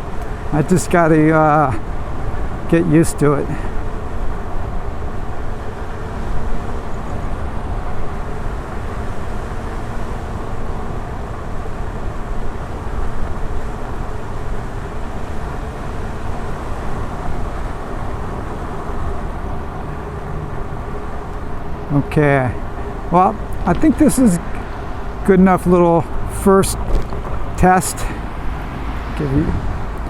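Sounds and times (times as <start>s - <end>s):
electric unicycle ride noise: 0.0s - 30.0s.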